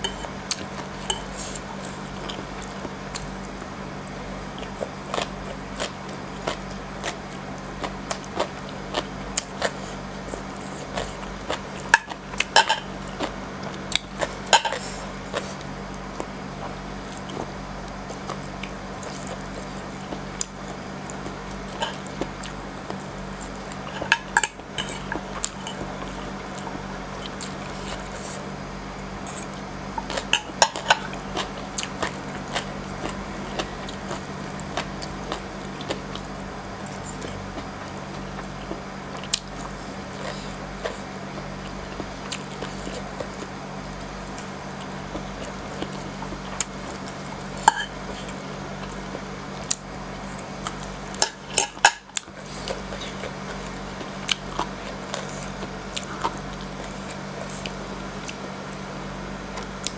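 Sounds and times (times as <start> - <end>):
crunchy chewing and mouth sounds: 0.0 - 59.9
low steady hum: 0.0 - 59.9.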